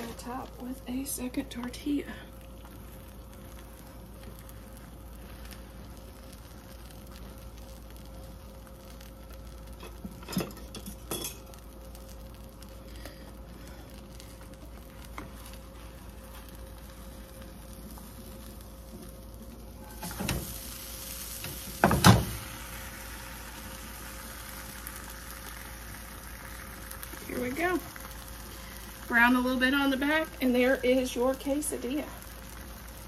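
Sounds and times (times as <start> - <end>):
food sizzling in a skillet: 0.0 - 33.0.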